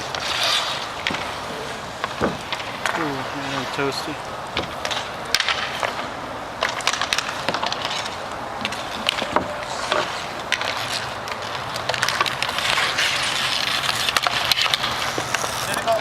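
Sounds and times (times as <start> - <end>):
hockey sticks and puck clacking: 0.0 - 16.0
ice skates on rink: 0.0 - 16.0.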